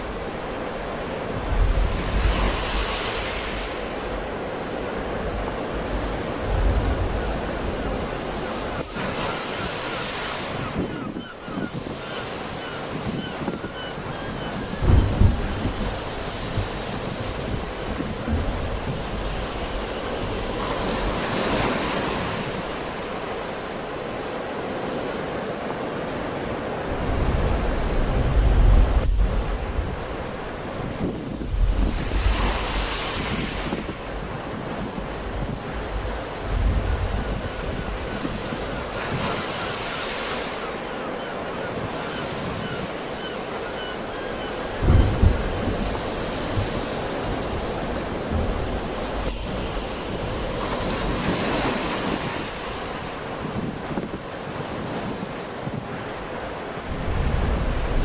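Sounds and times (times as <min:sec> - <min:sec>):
sea waves washing ashore: 0:00.0 - 0:58.0
wind buffeting microphone: 0:00.0 - 0:58.0.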